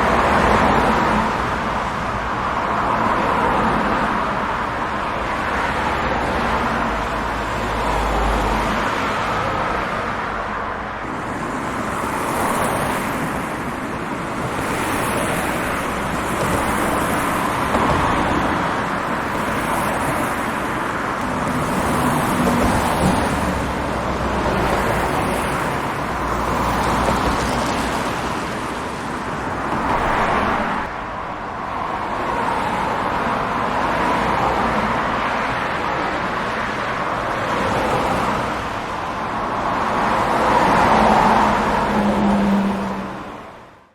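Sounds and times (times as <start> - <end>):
highway traffic rushing: 0.0 - 43.9.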